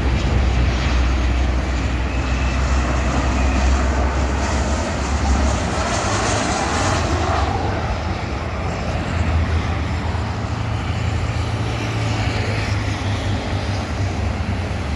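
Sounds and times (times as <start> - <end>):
jet engine roar: 0.0 - 14.9.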